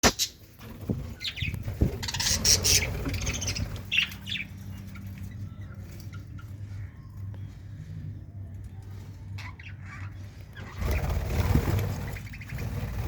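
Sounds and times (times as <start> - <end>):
budgerigars chirping and squawking: 0.0 - 7.8, 9.3 - 13.0
low steady hum: 0.3 - 13.0.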